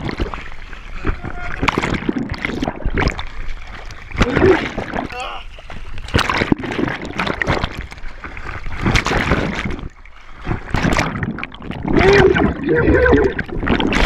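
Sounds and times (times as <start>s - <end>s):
muffled underwater rushing: 0.0s - 14.0s
water splashing: 0.0s - 14.0s.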